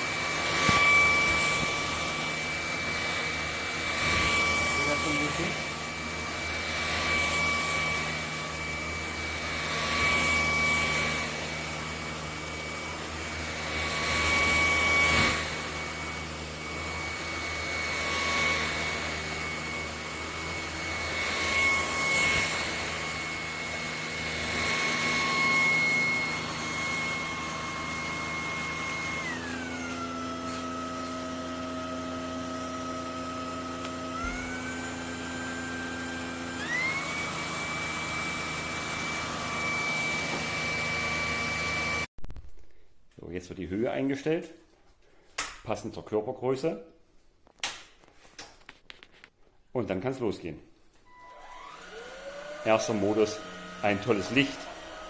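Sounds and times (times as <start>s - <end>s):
stick vacuum motor whine: 0.0s - 42.1s, 51.0s - 55.0s.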